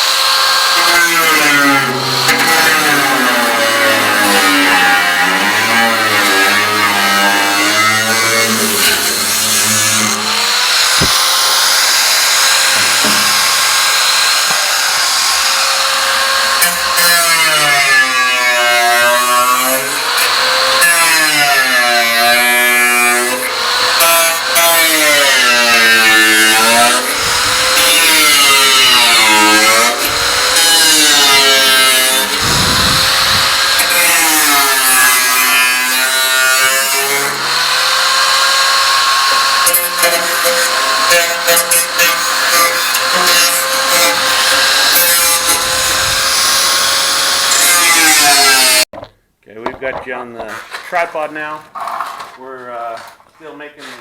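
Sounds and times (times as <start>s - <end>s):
power tool grinding steel barrel: 0.0s - 48.9s.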